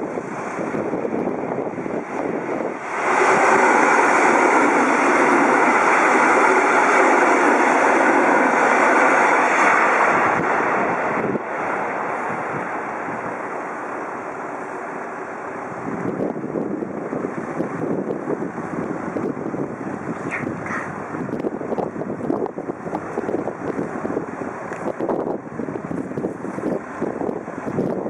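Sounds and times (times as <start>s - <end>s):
electric train passing: 0.0s - 28.0s.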